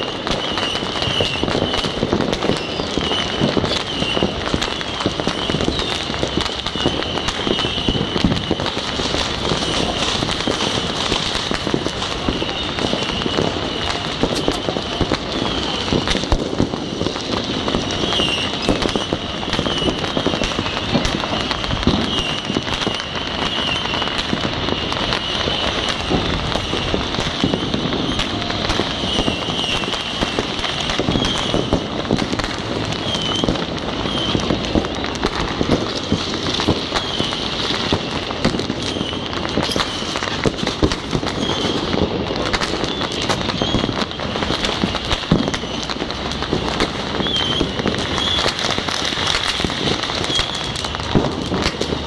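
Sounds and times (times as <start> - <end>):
fireworks crackling and banging: 0.0 - 52.0.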